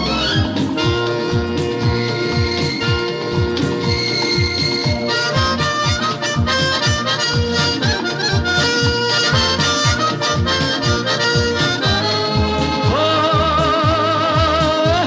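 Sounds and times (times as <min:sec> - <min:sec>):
reedy lead melody: 0:00.0 - 0:15.0
steady drum beat: 0:00.0 - 0:15.0.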